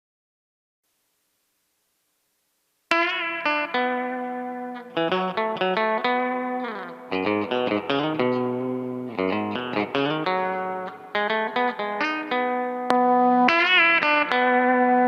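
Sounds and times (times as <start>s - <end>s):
electric guitar country notes: 2.9s - 15.0s.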